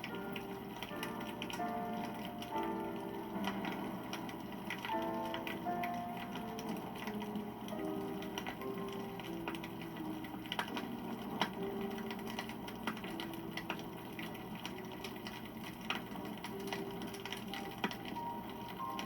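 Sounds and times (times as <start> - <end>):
campfire crackling and popping: 0.0 - 19.0
soft slow background music: 0.0 - 19.0.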